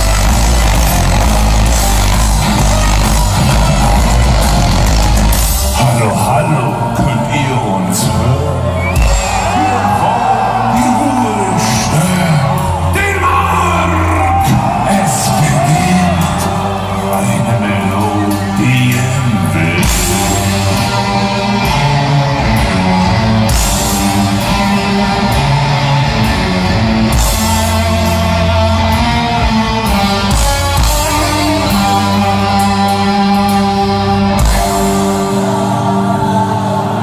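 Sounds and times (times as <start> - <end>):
heavy metal band playing live: 0.0 - 37.0.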